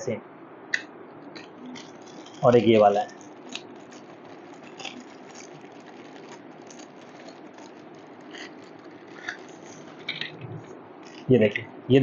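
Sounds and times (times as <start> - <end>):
background hum and hiss: 0.0 - 12.0
plastic packaging rustling: 1.3 - 11.3
plastic caster wheels clicking: 1.4 - 11.3.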